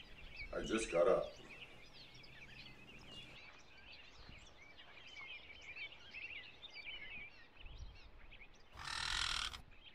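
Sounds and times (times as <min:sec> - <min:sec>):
faint birdsong chirps: 0:00.0 - 0:09.9.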